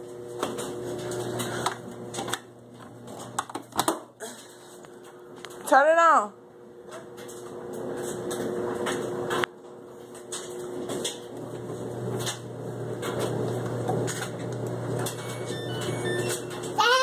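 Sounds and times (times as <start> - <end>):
washing machine humming: 0.0 - 17.0.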